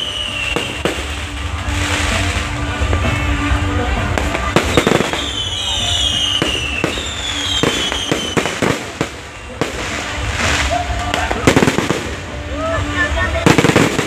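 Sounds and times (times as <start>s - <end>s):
fireworks bangs and pops: 0.0s - 14.0s
whistling fireworks: 0.0s - 14.0s.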